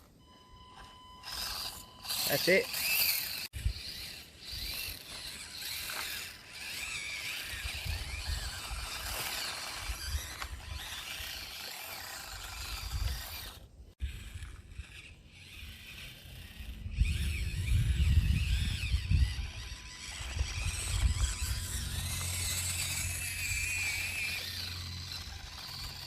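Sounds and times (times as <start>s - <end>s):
small electric motor whining: 0.0s - 26.0s.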